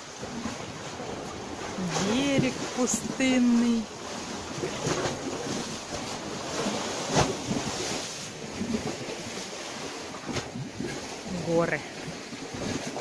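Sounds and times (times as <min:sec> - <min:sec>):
sea waves washing ashore: 0:00.0 - 0:13.0.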